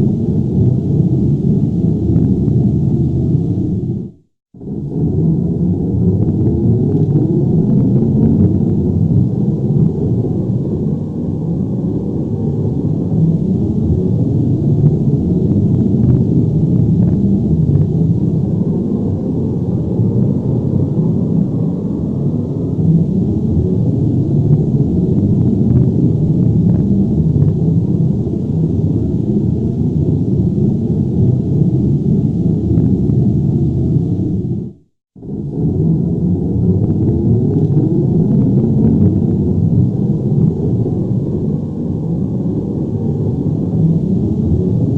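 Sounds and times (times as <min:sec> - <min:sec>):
deep rumbling roar: 0:00.0 - 0:44.9.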